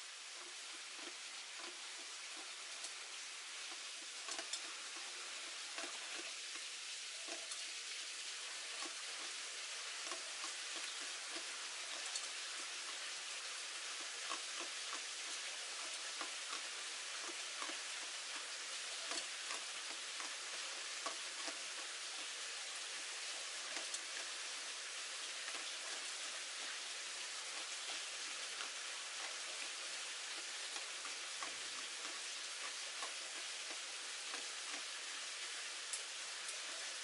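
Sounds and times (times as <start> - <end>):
light rain hissing: 0.0 - 37.0
raindrops ticking: 0.0 - 37.0.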